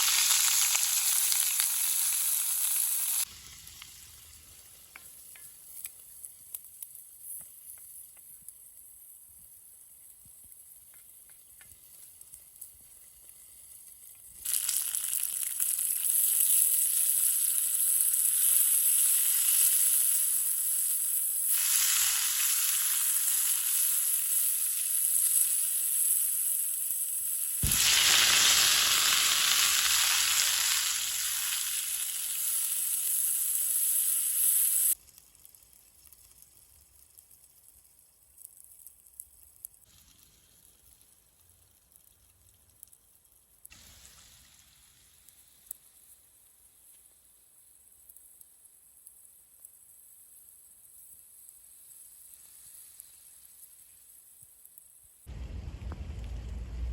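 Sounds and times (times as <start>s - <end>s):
food sizzling in a pan: 0.0s - 42.0s, 43.2s - 55.3s.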